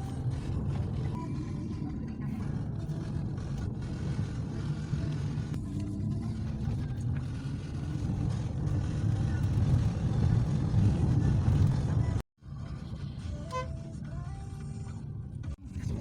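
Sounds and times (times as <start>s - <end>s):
car rumbling: 0.0s - 16.0s.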